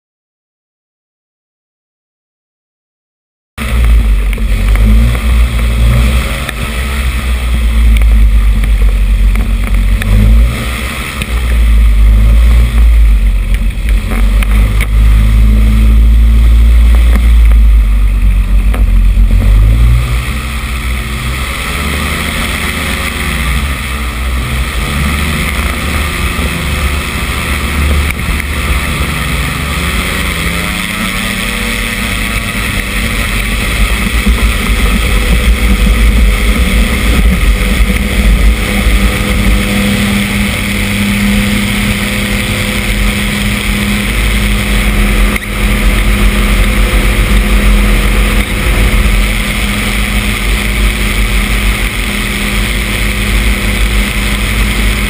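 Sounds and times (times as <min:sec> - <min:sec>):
microlight engine and propeller: 0:03.6 - 0:55.0
wind rumble on microphone: 0:03.6 - 0:55.0.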